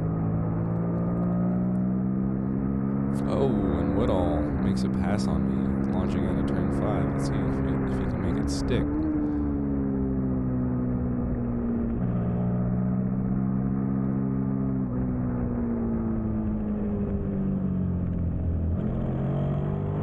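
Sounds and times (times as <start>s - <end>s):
motorcycle engine running hard: 0.0s - 20.0s.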